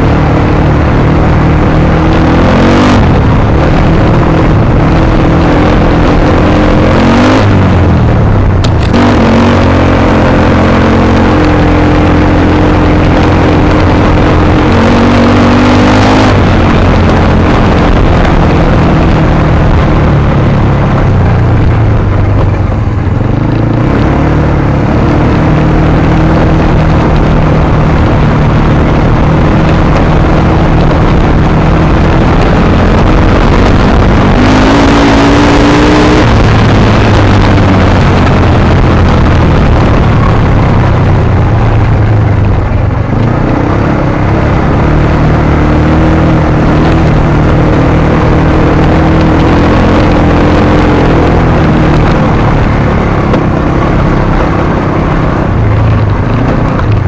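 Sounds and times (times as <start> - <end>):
off-road vehicle engine running: 0.0 - 57.0
road and wind noise: 0.0 - 57.0.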